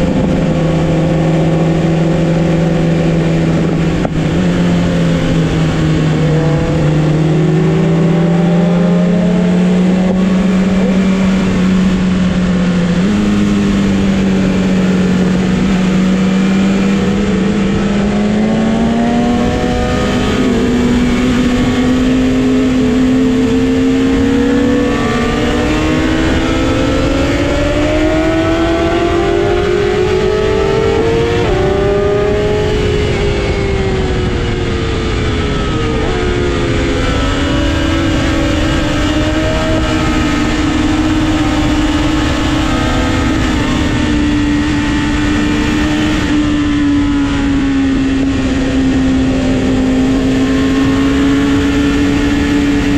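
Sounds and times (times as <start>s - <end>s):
motorcycle engine under way: 0.0s - 52.9s.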